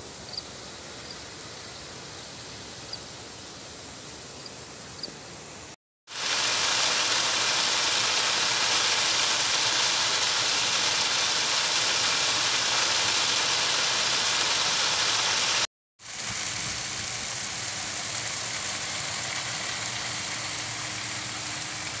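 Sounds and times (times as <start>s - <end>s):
sprayed water hissing on lawn: 0.0s - 22.0s.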